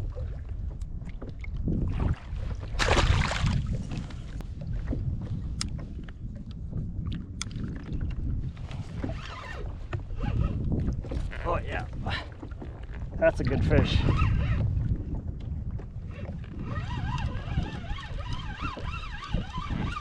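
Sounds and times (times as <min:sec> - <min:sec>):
water slapping around kayak: 0:00.0 - 0:20.0
wind buffeting microphone: 0:00.0 - 0:20.0.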